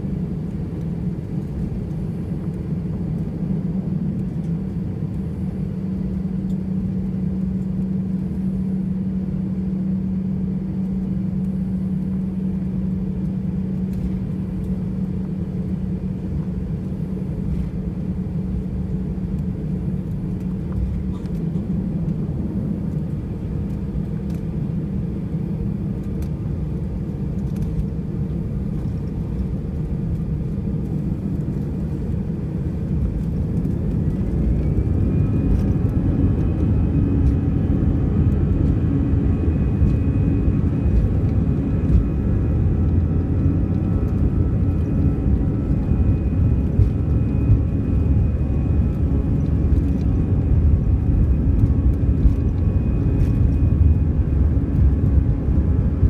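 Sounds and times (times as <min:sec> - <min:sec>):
jet engine whine rising: 0:00.0 - 0:56.0
jet engines rumbling: 0:00.0 - 0:56.0.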